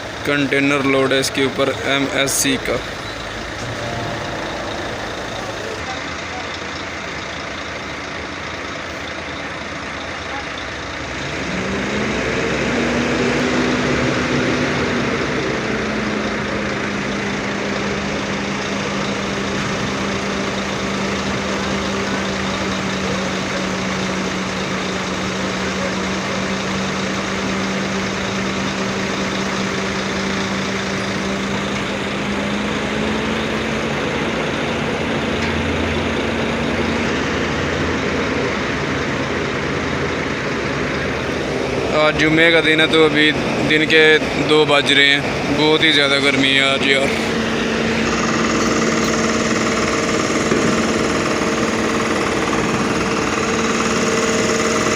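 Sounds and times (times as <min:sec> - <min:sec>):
engine humming: 0:00.0 - 0:54.9.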